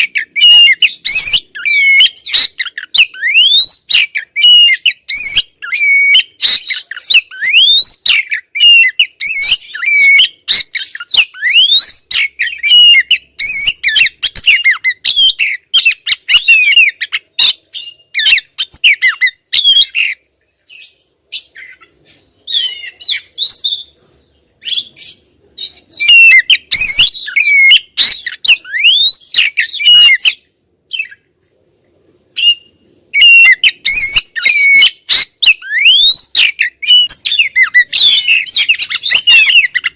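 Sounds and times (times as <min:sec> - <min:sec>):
bird whistling and chirping: 0:00.0 - 0:24.0, 0:24.6 - 0:31.2, 0:32.3 - 0:39.9.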